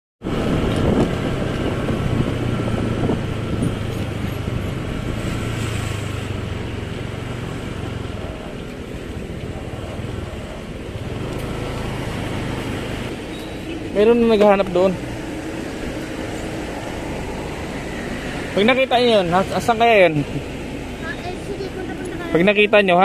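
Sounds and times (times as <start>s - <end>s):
road and wind noise: 0.2s - 23.0s
motorcycle engine running: 0.4s - 23.0s.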